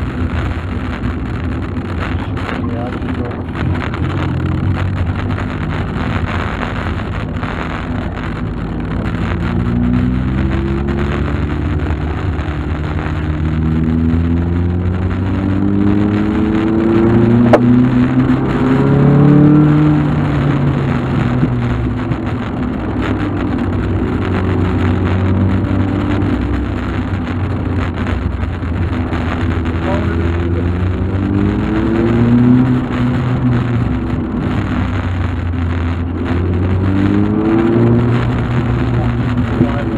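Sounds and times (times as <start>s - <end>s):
car engine accelerating: 0.0s - 39.9s
road rumble: 0.0s - 39.9s.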